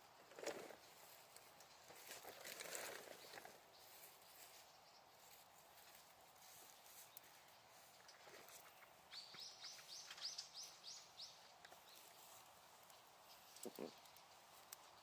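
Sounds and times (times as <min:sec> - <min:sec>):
faint bird song: 0:00.0 - 0:15.0
faint fire crackles: 0:00.0 - 0:15.0
low background hiss: 0:00.0 - 0:15.0.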